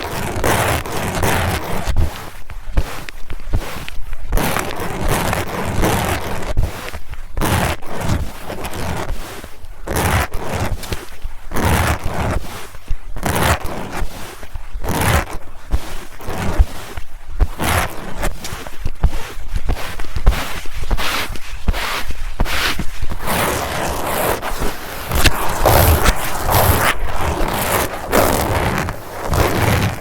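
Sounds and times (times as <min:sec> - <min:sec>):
scratching on microphones: 0:00.0 - 0:30.0.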